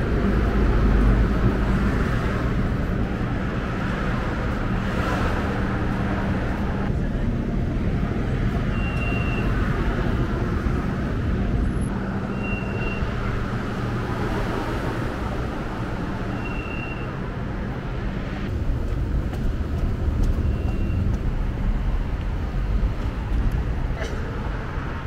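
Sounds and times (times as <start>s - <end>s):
tram running hum and rumble: 0.0s - 25.0s.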